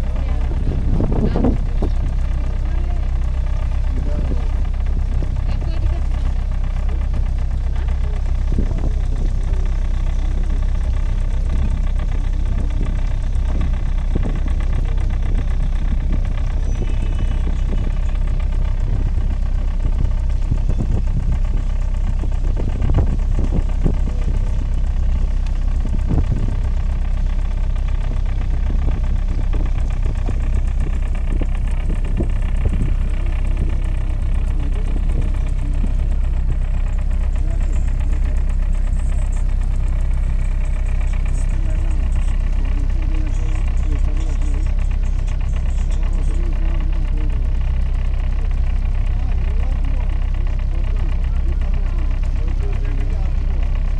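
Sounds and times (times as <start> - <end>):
boat engine humming: 0.0 - 53.9.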